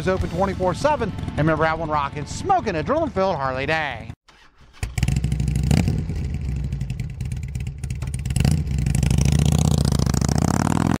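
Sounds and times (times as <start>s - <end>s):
motorcycle engine revving: 0.0s - 3.2s, 3.9s - 11.0s.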